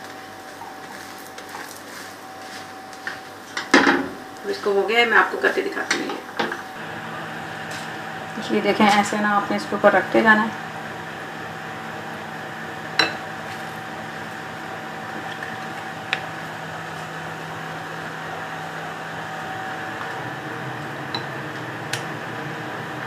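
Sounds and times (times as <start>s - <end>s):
mechanical room hum: 0.0s - 23.0s.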